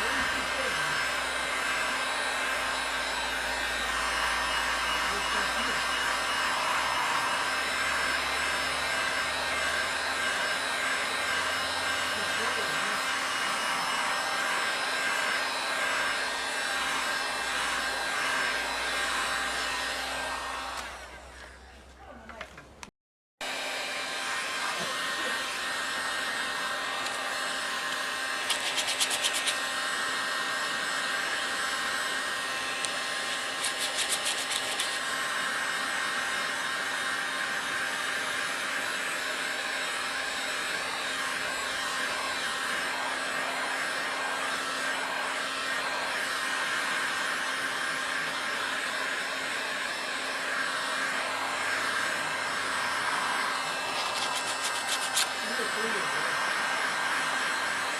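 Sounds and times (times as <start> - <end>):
hot air gun blowing: 0.0 - 20.9, 23.8 - 57.9.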